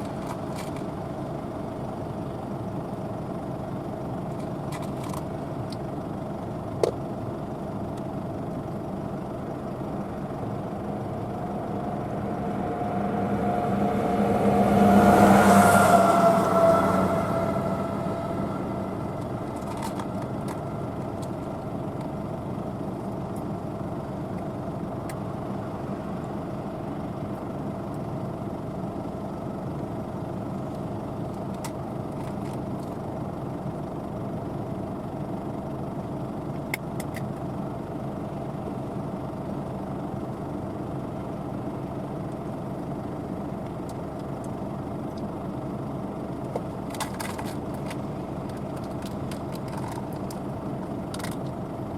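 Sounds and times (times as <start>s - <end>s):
combine harvester droning: 0.0s - 51.9s.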